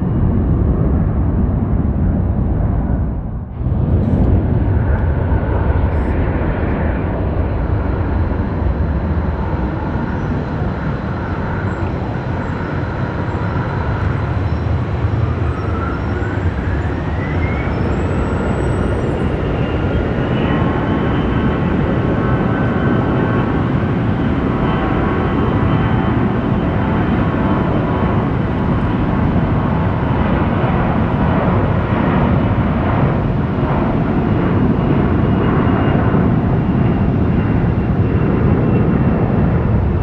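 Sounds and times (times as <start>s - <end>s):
jet engine whine: 0.0s - 40.0s
jet engines rumbling: 0.0s - 40.0s.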